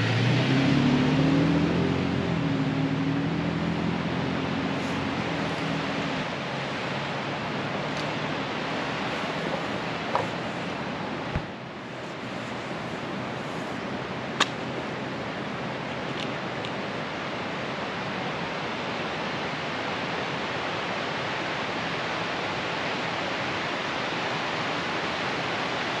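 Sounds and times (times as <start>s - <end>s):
river water rushing over rocks: 0.0s - 26.0s.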